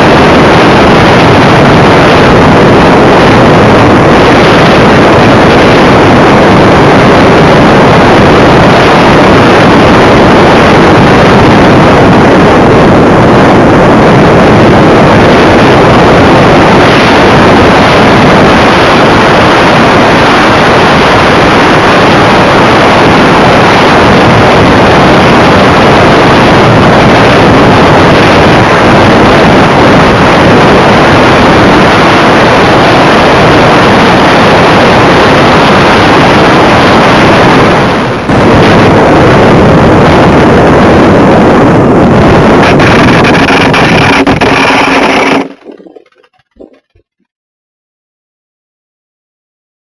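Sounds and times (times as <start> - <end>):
airflow rush: 0.0 - 47.2
wind buffeting microphone: 0.0 - 47.2.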